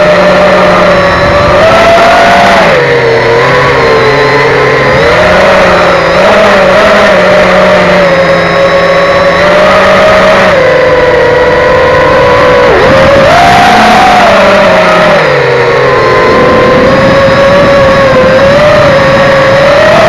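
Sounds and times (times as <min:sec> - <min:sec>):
quadcopter motors buzzing whine: 0:00.0 - 0:20.0.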